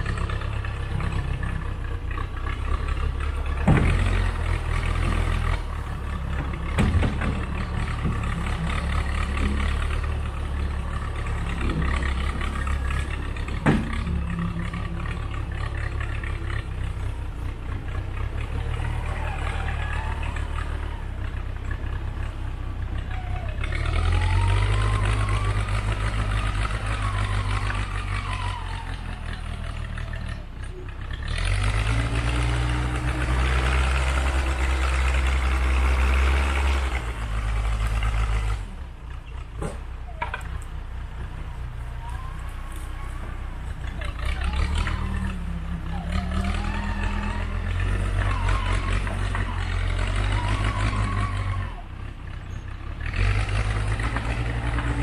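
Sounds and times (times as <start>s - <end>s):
backhoe engine under load: 0.0s - 55.0s.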